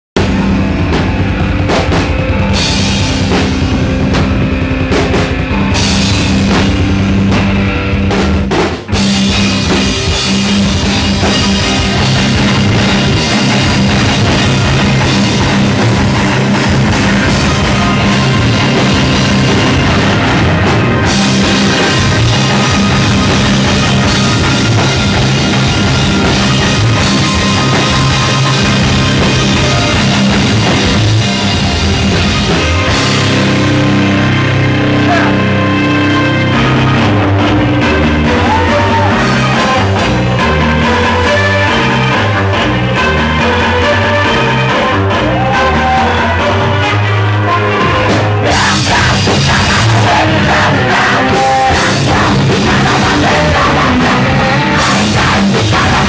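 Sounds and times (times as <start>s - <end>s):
pounding drum kit: 0.1s - 56.0s
electric guitars heavy chords: 0.2s - 56.0s.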